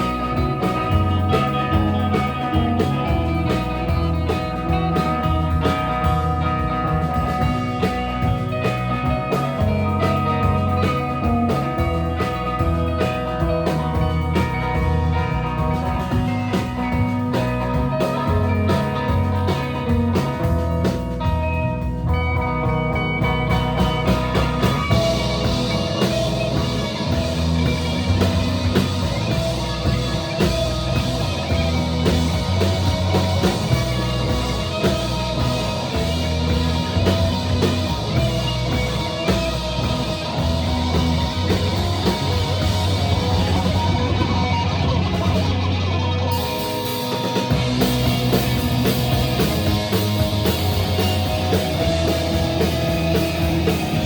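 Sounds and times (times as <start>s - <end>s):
drums and cymbals: 0.0s - 54.0s
live rock band playing: 0.0s - 54.0s.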